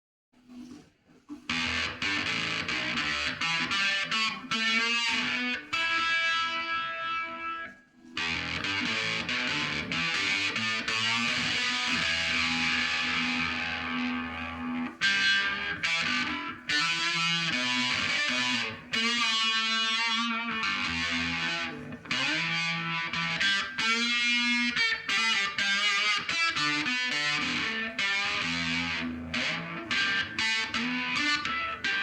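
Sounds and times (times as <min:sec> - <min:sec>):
distorted electric guitar: 0:01.3 - 0:32.0.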